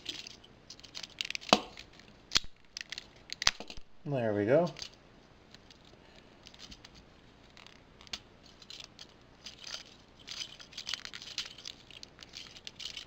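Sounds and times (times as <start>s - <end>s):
plastic parts clicking and scraping: 0.0s - 3.8s, 4.7s - 13.0s.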